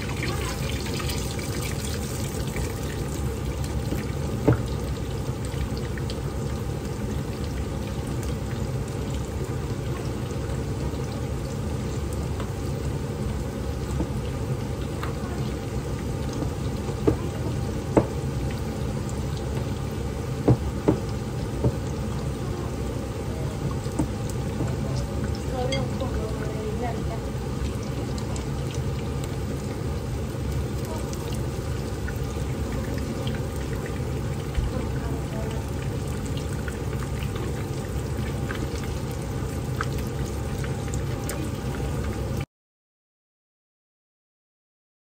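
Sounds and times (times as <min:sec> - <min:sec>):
oil sizzling in a pan: 0:00.0 - 0:42.4.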